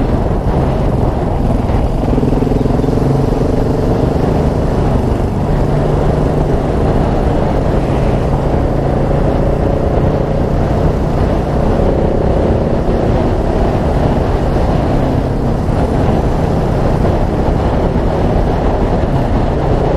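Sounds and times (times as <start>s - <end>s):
motorcycle engine running: 0.0s - 19.9s
wind noise on microphone: 0.0s - 19.9s.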